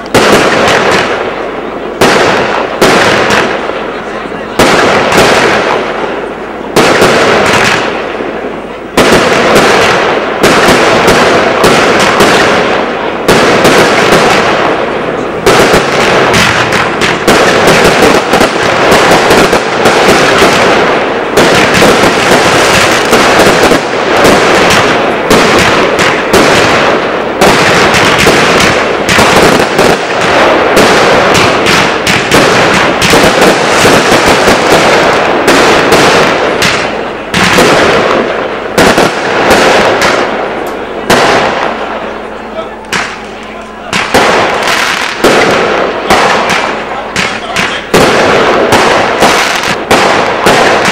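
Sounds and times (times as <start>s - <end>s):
fireworks barrage cracking: 0.0s - 50.9s.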